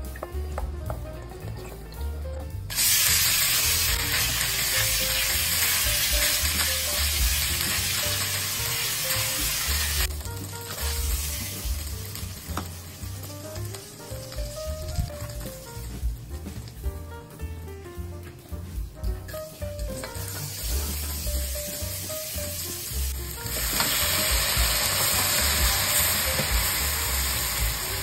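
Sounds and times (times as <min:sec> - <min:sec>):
sausages sizzling in oil: 0:02.5 - 0:16.9, 0:19.0 - 0:28.0.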